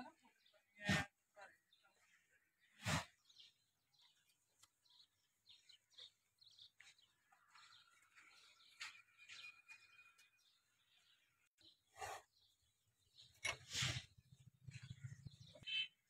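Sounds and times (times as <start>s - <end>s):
bird chirps and calls: 1.7s - 16.0s.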